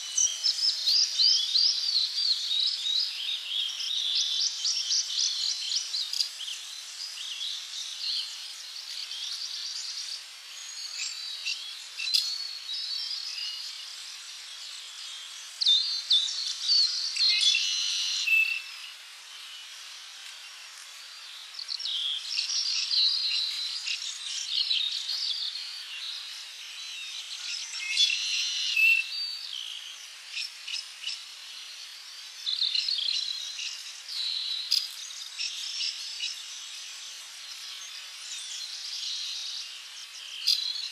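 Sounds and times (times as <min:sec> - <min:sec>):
birds chirping and trilling: 0:00.0 - 0:40.9
insect-like hiss: 0:00.0 - 0:40.9.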